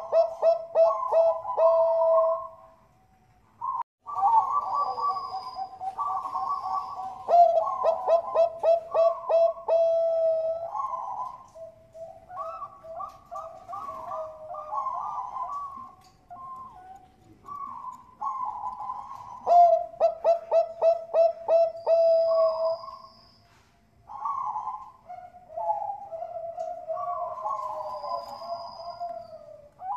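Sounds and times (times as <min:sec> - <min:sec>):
dove cooing: 0:00.0 - 0:02.8, 0:03.6 - 0:29.9.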